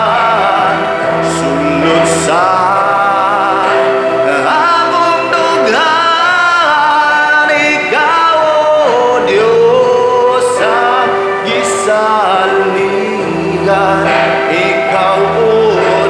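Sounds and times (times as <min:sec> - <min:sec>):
man singing slow song: 0:00.0 - 0:16.0.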